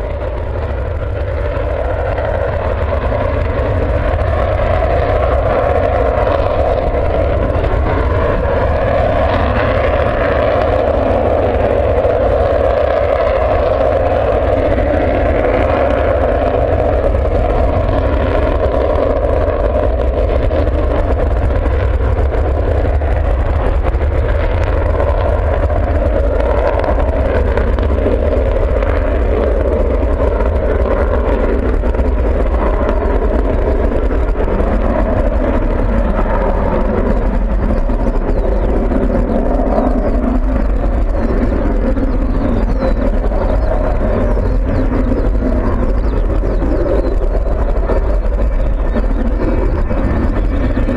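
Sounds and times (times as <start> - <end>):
loud jet roar: 0.0 - 50.9.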